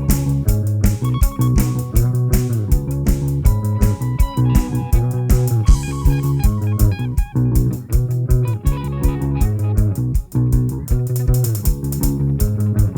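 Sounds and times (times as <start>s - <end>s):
bass guitar: 0.0s - 12.9s
drum beat: 0.0s - 12.9s
electric guitar: 0.0s - 12.9s.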